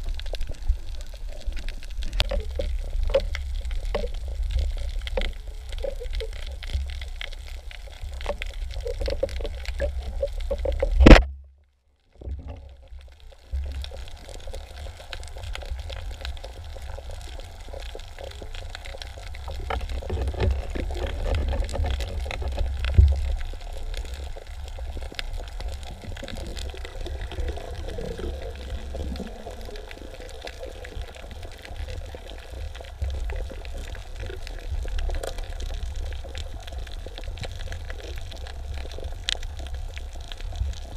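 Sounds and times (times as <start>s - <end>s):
muffled underwater rumble: 0.0s - 40.9s.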